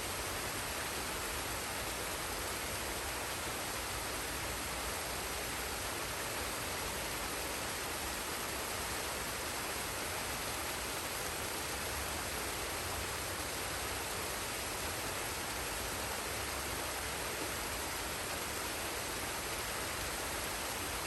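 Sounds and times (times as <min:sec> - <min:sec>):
waterfall rushing water: 0:00.0 - 0:21.0.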